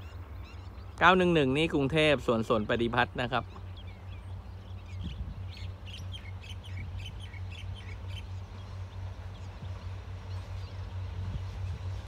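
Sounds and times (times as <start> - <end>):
bird chirping: 0.0 - 1.6, 3.2 - 12.0
steady low hum: 0.0 - 12.0.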